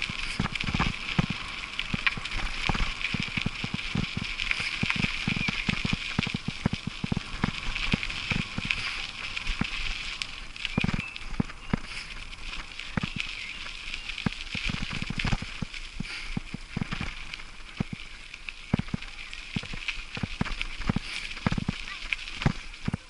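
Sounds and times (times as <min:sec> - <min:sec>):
bicycle tyres crunching on gravel: 0:00.0 - 0:23.0
bike rattling over bumps: 0:00.0 - 0:23.0.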